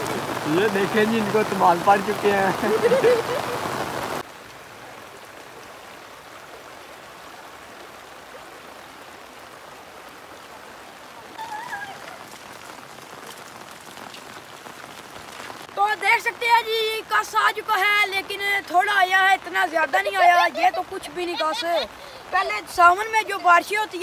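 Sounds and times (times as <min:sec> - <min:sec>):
rushing floodwater: 0:00.0 - 0:24.0
steady rain: 0:00.0 - 0:24.0.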